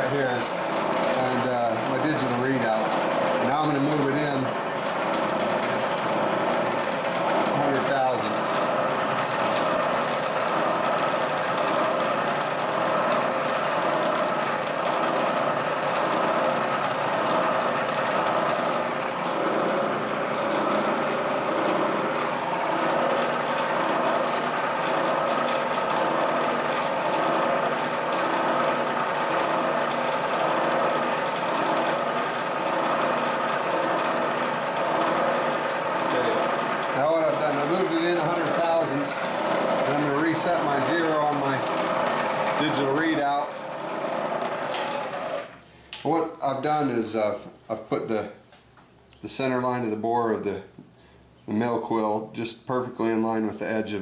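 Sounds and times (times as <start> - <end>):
milling machine running: 0.0 - 47.4.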